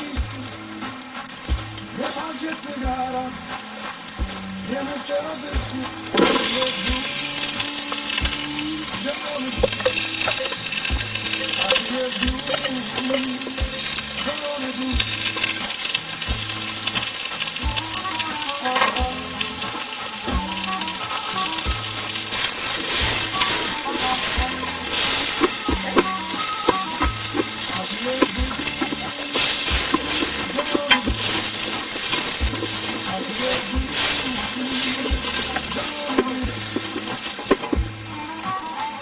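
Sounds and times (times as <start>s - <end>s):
background music with bass line: 0.0s - 39.0s
food sizzling in a pan: 0.0s - 39.0s.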